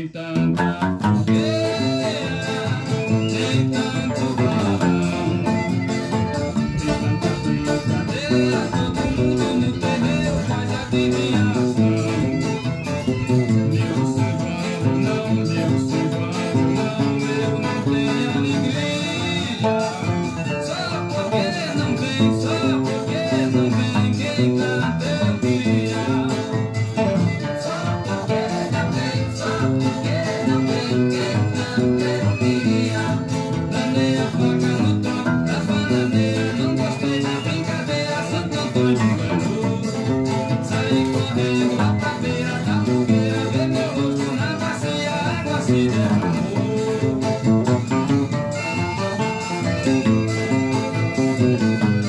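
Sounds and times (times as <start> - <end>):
fingerpicked classical guitar: 0.0 - 52.0.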